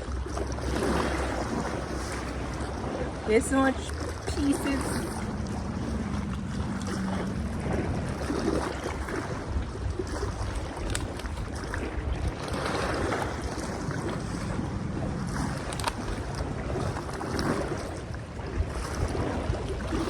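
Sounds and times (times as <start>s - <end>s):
water lapping: 0.0s - 20.0s
wind buffeting microphone: 0.0s - 20.0s.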